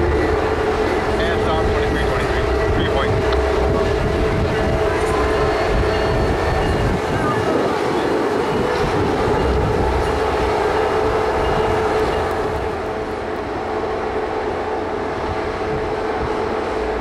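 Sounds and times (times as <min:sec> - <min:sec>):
train wheels rumbling: 0:00.0 - 0:17.0
train whine: 0:00.0 - 0:17.0.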